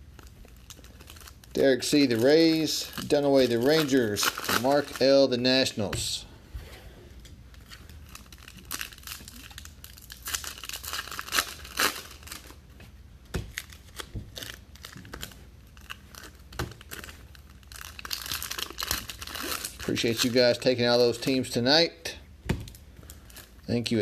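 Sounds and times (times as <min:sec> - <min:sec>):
card pack wrappers crinkling and tearing: 0:00.0 - 0:05.8, 0:07.5 - 0:12.6, 0:13.5 - 0:20.7, 0:22.7 - 0:24.0.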